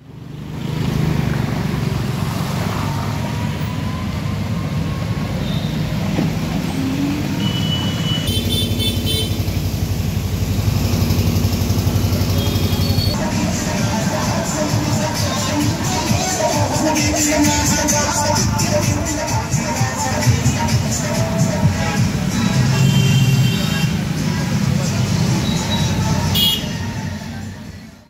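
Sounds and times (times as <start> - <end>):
motorcycle and scooter engines: 0.0 - 28.0
street traffic: 0.0 - 28.0.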